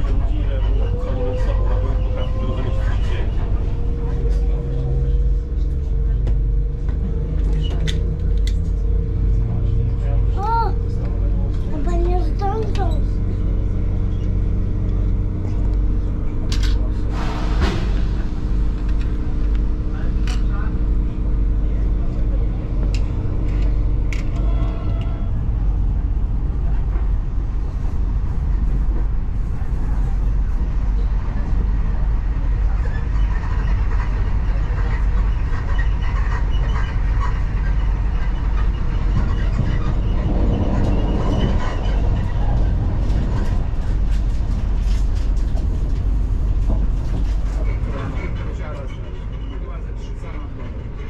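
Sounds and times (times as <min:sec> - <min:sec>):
indistinct passenger voices: 0:00.0 - 0:51.0
train rumbling: 0:00.0 - 0:51.0.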